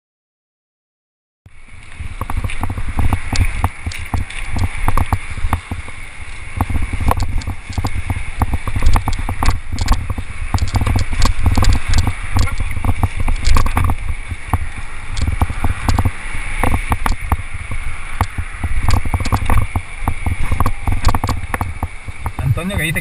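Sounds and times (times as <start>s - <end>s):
wind rumble on microphone: 1.5s - 23.0s
mountain bike rattling over rock: 2.0s - 22.4s.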